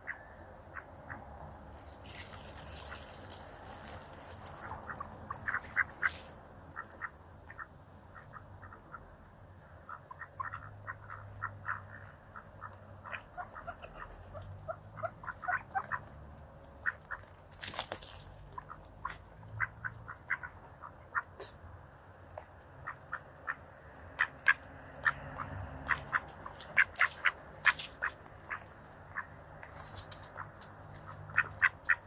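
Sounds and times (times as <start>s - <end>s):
ducks clicking bills feeding: 1.7s - 7.1s, 10.1s - 21.5s, 22.4s - 32.0s.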